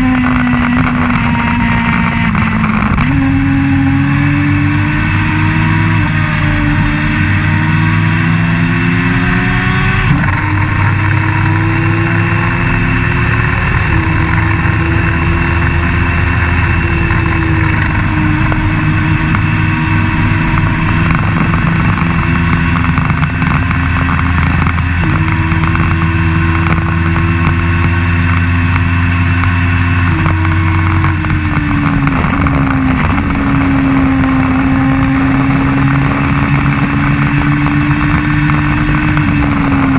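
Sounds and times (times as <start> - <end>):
race car engine shifting gears: 0.0 - 39.9.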